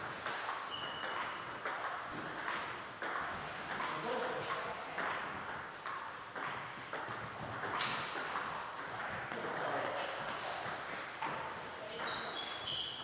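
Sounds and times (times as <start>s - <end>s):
table tennis balls clicking: 0.0s - 13.0s.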